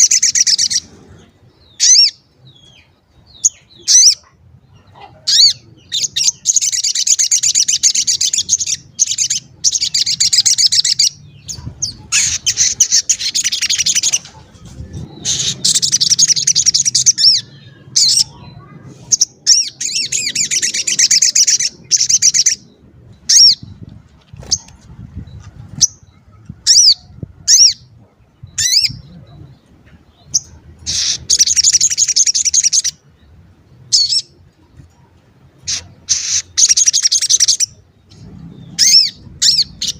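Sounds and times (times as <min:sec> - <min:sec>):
songbird trilling and chirping: 0:00.0 - 0:39.9.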